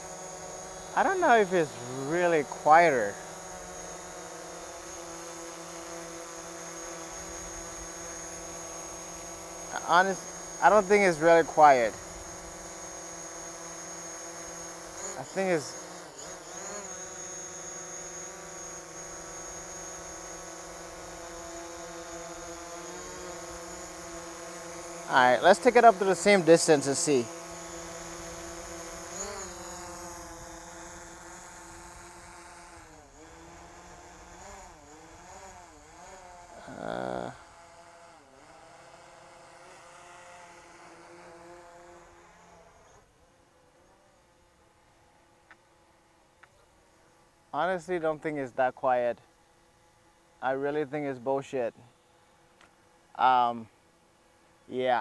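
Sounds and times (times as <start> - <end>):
quadcopter drone buzzing: 0.0 - 55.0.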